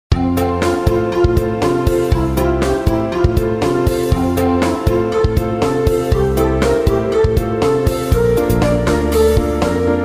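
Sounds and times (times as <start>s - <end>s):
upbeat background music: 0.1s - 10.0s.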